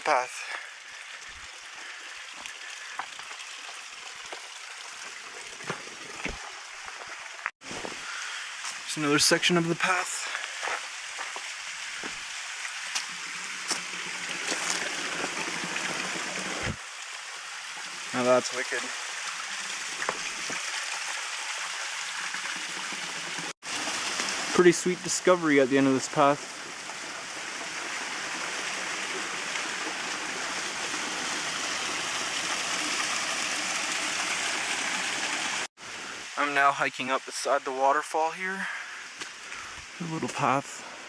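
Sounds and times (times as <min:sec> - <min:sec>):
mountain stream water flowing: 0:00.0 - 0:41.0.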